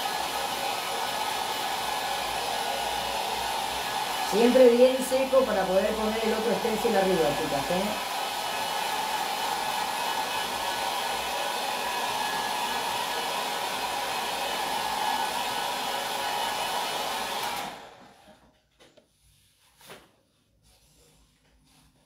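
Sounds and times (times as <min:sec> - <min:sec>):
hot-air dryer blowing: 0:00.0 - 0:18.5.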